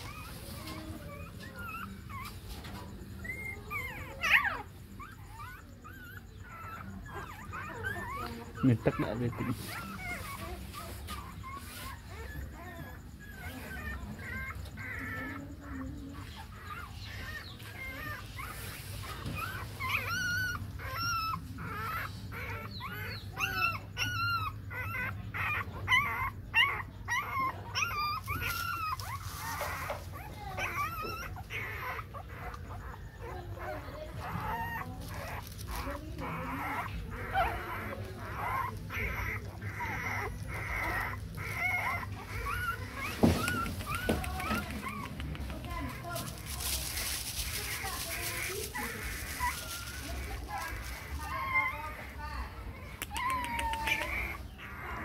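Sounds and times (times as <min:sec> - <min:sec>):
puppies whimpering and squeaking: 0:00.0 - 0:55.0.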